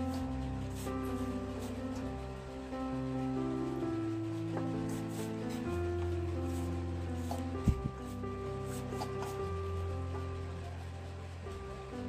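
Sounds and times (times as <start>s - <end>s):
instrumental background music: 0.0s - 12.0s
steady bass line: 0.0s - 12.0s.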